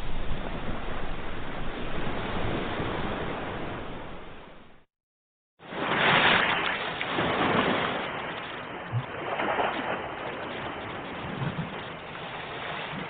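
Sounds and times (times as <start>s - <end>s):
sea waves washing on shore: 0.0s - 4.9s, 5.6s - 13.0s.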